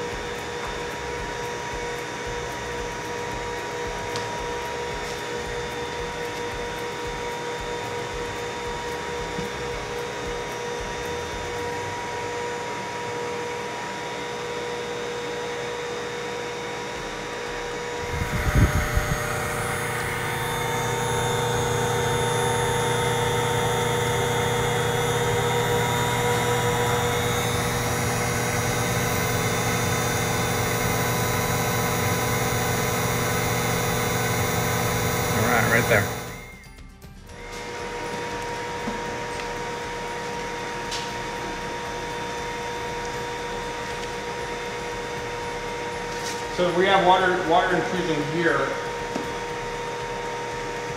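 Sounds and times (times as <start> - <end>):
blower whining steadily: 0.0 - 50.9.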